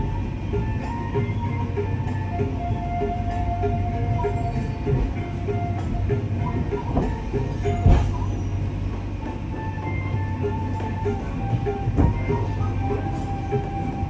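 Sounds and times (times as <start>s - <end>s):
background music: 0.0s - 14.0s
train rumbling on rails: 0.0s - 14.0s.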